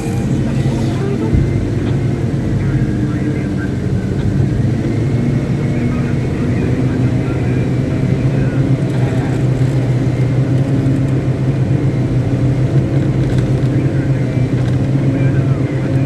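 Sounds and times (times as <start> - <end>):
diesel truck engine humming: 0.0 - 16.0.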